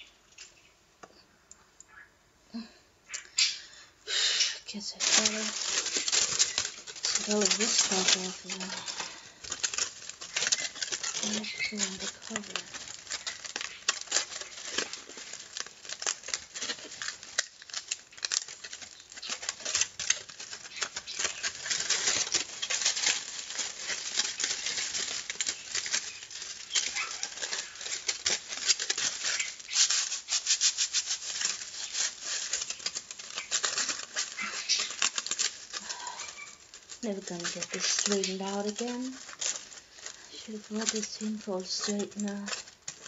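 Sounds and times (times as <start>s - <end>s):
aluminium foil crinkling: 0.0s - 0.7s, 2.6s - 43.0s.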